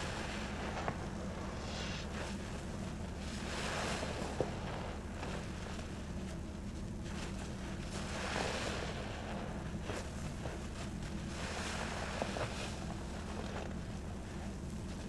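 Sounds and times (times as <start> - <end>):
steady low hum: 0.0 - 15.0
soap foam squelching: 0.1 - 14.8.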